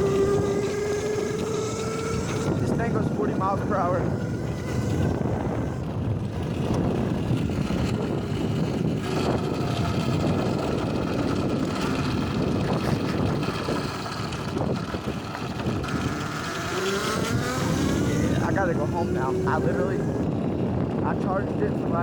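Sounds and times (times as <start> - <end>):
electric motor whine: 0.0 - 22.0
wind buffeting microphone: 0.0 - 22.0.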